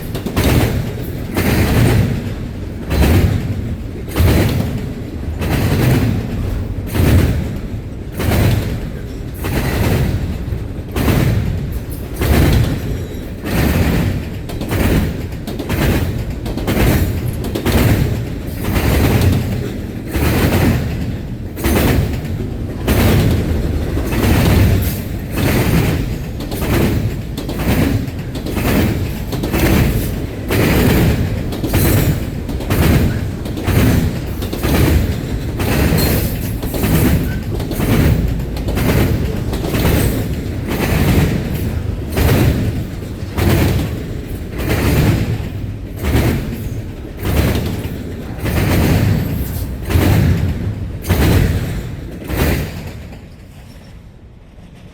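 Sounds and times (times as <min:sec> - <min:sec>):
train wheels clattering over rail joints: 0:00.0 - 0:54.9.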